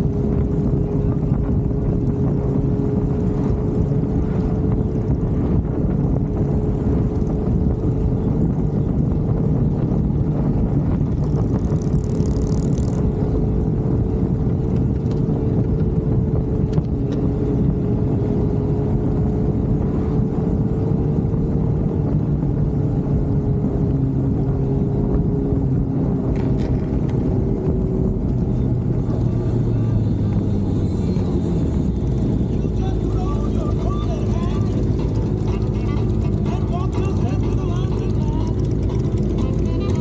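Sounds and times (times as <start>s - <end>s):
motorcycle engine cruising: 0.0s - 40.0s
road and wind rumble: 0.0s - 40.0s.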